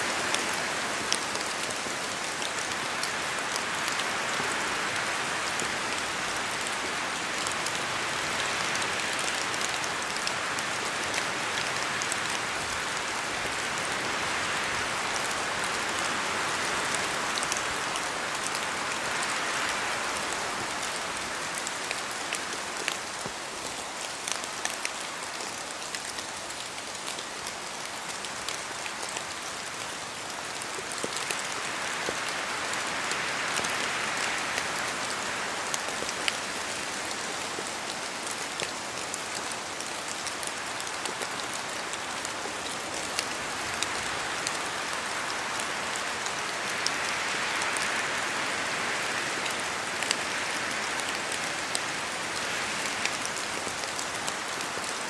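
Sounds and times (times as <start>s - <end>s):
rain falling through trees: 0.0s - 55.0s.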